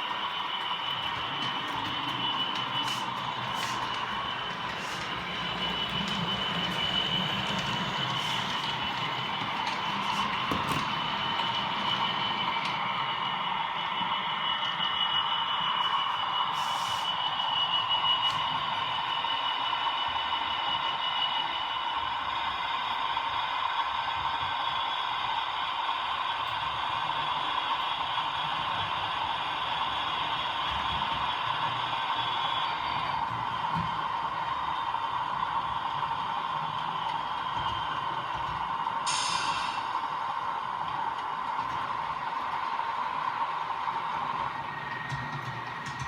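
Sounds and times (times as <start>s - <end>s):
model train motor whine: 0.0s - 46.0s
wheels rattling on rails: 0.0s - 46.0s.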